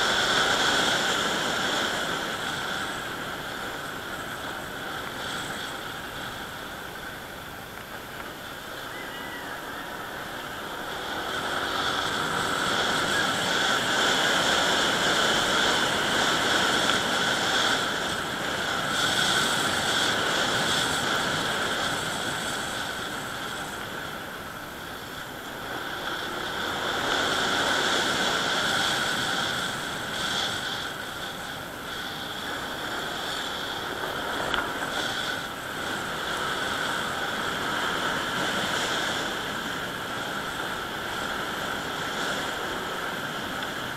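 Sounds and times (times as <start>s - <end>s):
motorcycle engine running: 0.0s - 43.9s
wind rushing over microphone: 0.0s - 43.9s.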